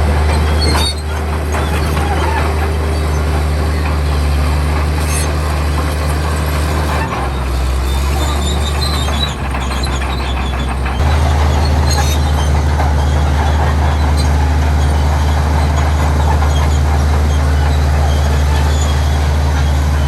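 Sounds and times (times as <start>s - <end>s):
heavy diesel machinery engine drone: 0.0s - 20.0s.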